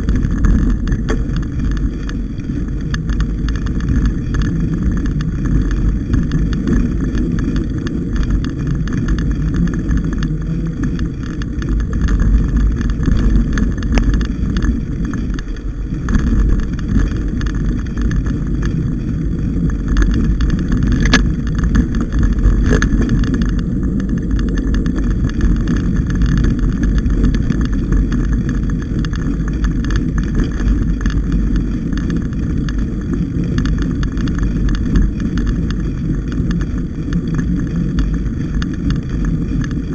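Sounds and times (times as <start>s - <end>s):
bike jolting over trail: 0.0s - 39.9s
wind buffeting microphone: 0.0s - 39.9s.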